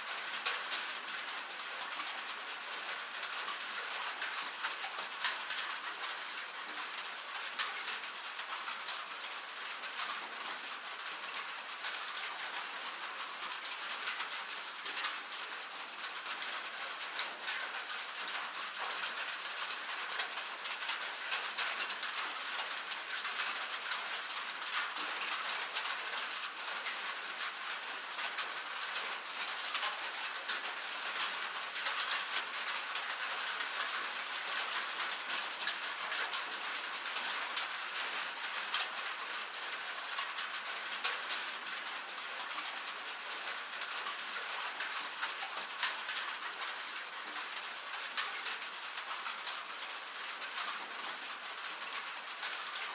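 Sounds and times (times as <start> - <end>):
rain on a metal roof: 0.0 - 52.9.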